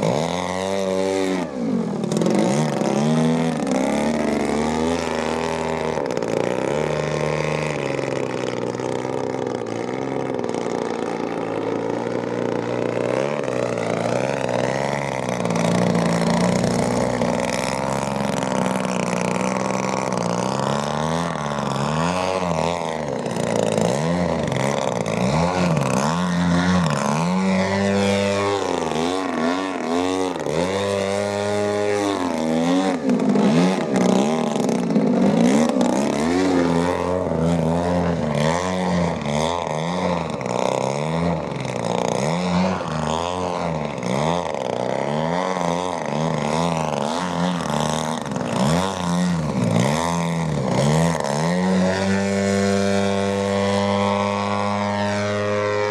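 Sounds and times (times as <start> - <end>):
model airplane engine running hard: 0.0 - 55.9.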